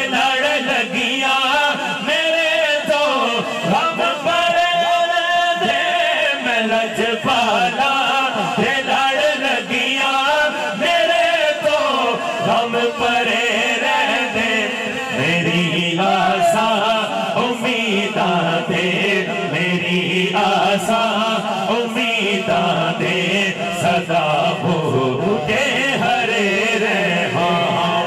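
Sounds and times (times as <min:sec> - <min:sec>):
devotional chanting: 0:00.0 - 0:28.0.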